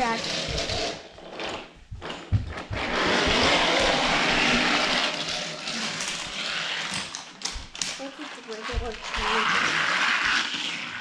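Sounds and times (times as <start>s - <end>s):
toy vehicle whirring rumble: 0.0s - 11.0s.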